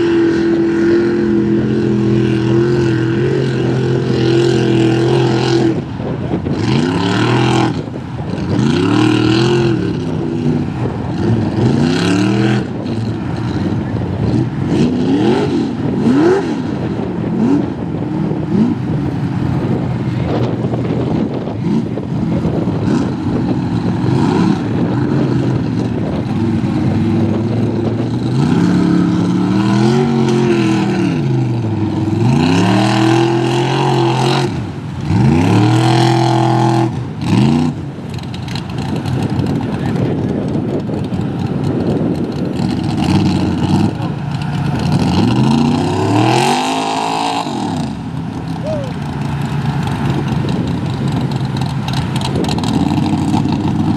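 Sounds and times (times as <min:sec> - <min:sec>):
truck engine revving hard: 0:00.0 - 0:53.9.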